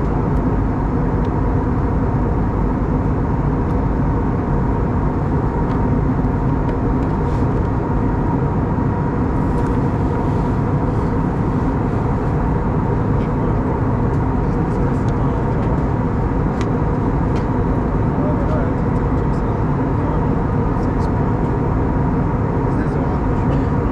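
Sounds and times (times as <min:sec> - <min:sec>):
airflow rush in cabin: 0:00.0 - 0:23.9
jet engines humming: 0:00.0 - 0:23.9.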